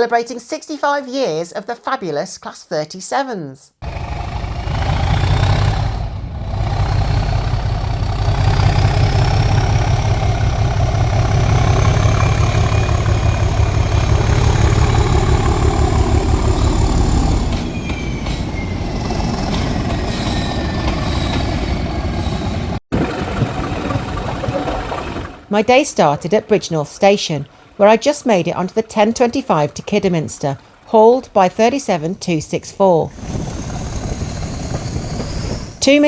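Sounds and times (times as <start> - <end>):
diesel locomotive engine throbbing: 3.8 - 36.0.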